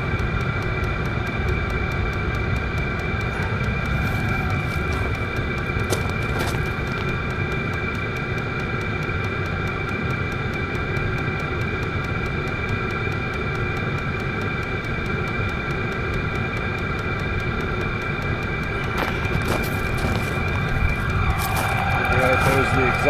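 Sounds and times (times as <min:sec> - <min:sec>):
air heater blower whirring: 0:00.0 - 0:23.0
fast regular ticking: 0:00.0 - 0:23.0
high steady whine: 0:00.0 - 0:23.0.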